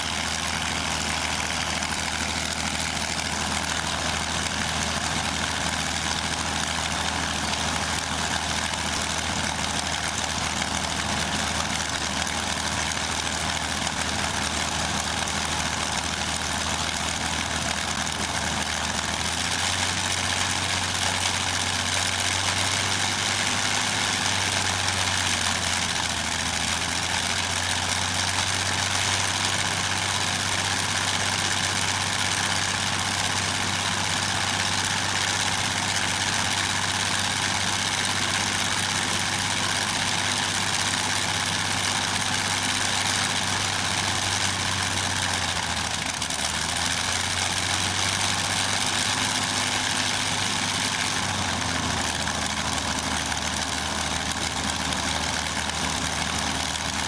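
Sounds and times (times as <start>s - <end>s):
aircraft piston engine running: 0.0s - 57.0s.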